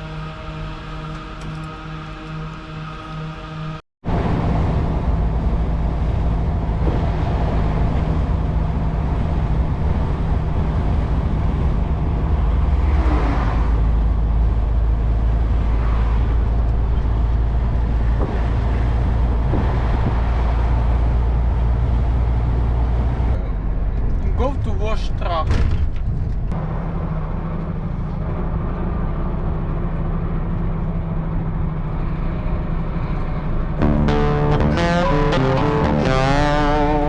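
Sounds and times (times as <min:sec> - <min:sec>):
lorry engine drone: 0:00.0 - 0:24.6, 0:26.5 - 0:37.0.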